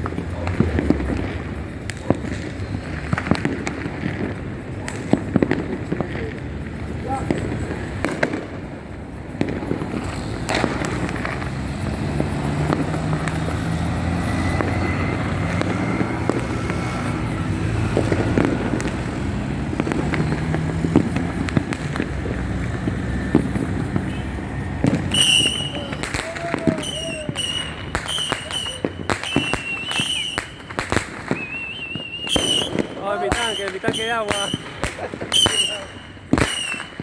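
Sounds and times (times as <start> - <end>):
fireworks crackling and popping: 0.0 - 37.0.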